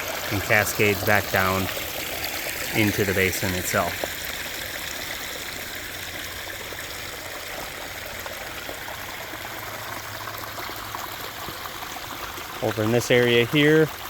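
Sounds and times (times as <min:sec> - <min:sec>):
water splashing over rocks: 0:00.0 - 0:14.0.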